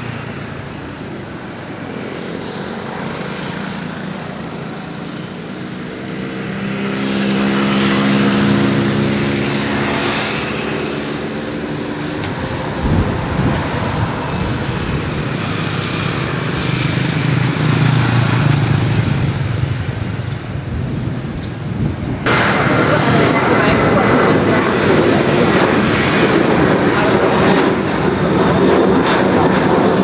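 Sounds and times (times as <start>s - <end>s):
jet airliner engine hum and whine: 0.0s - 30.0s
rough jet rumble: 0.0s - 30.0s.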